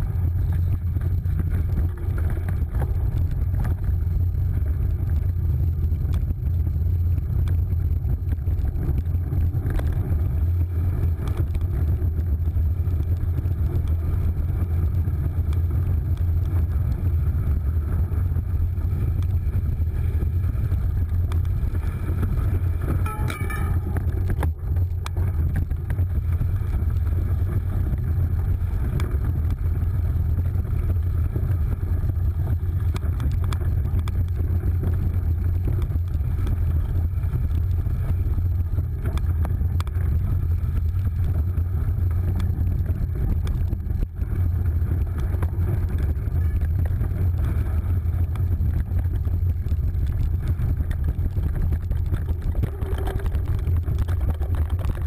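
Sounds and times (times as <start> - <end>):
knobby tyres rolling on dirt: 0.0 - 55.0
wind buffeting microphone: 0.0 - 55.0
faint bike clicks: 7.2 - 55.0.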